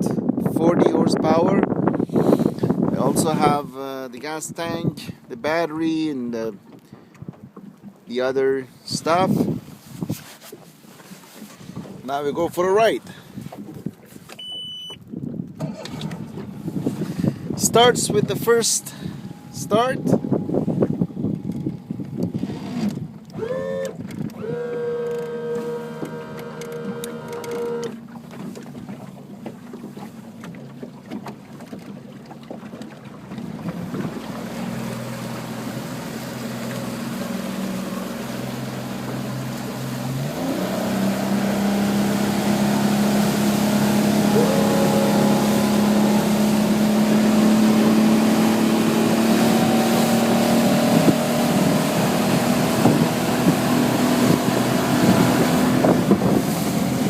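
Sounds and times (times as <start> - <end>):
outboard engine running: 0.0 - 57.0
wind and water rushing: 0.0 - 57.0.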